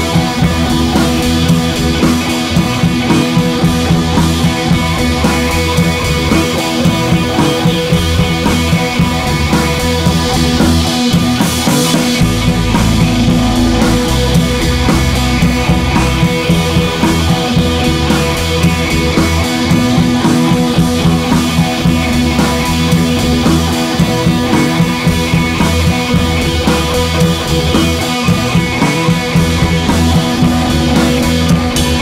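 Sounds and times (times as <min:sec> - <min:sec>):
rock music with guitar and drums: 0:00.0 - 0:32.0.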